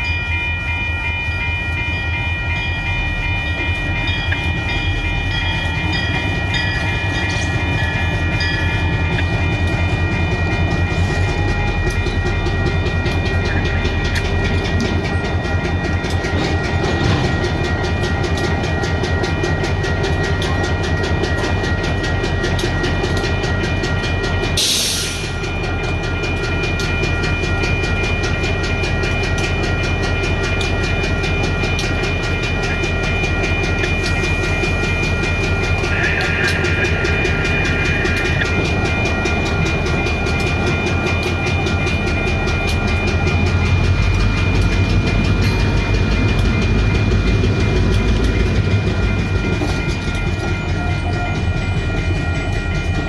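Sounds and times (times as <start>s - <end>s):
crossing bell ringing: 0.0s - 53.0s
diesel locomotive engine rumble: 0.0s - 53.0s
train wheel clatter: 0.0s - 53.0s.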